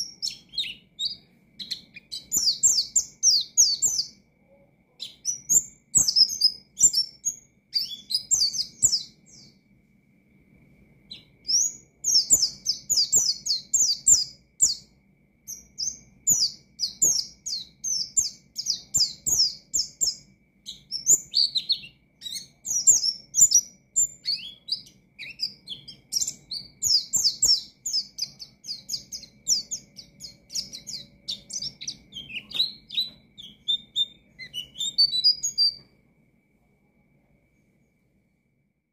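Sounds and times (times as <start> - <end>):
bird twittering song: 0.0 - 9.7, 11.0 - 36.0.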